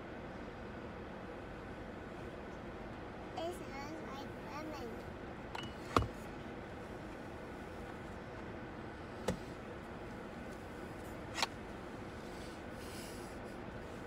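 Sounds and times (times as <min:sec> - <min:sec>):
car cabin background noise: 0:01.3 - 0:14.0.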